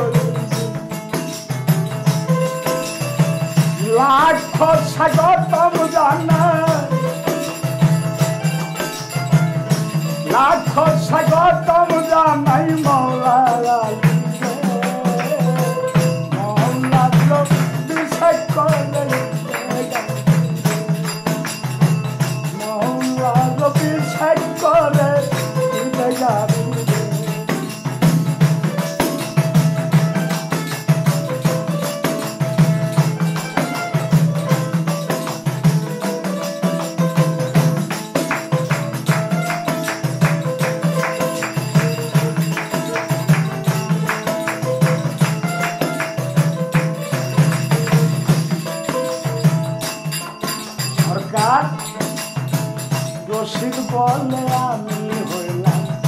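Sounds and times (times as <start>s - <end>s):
drum beat: 0.0s - 56.0s
hand percussion: 0.0s - 56.0s.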